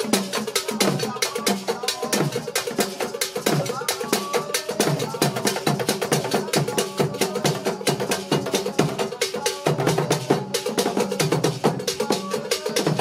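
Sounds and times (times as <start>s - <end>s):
drum-led percussion music: 0.0s - 13.0s.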